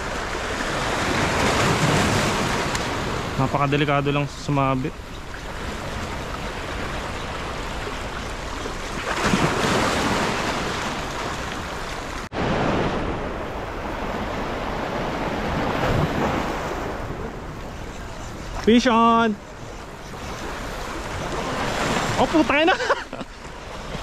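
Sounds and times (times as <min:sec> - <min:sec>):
waves washing over rocks: 0:00.0 - 0:17.8, 0:20.4 - 0:24.0.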